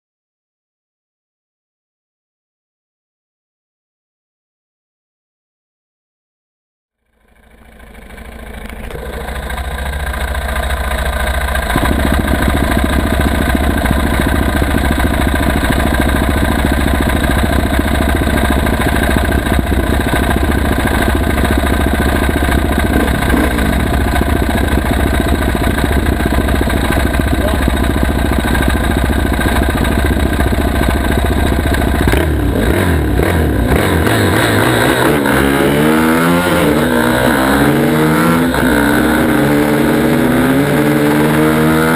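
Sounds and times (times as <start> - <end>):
dirt bike engine revving: 7.2 - 41.9.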